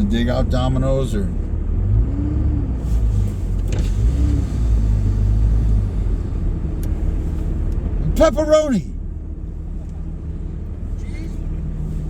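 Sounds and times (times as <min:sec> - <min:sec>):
vehicle driving rumble from inside: 0:00.0 - 0:12.0.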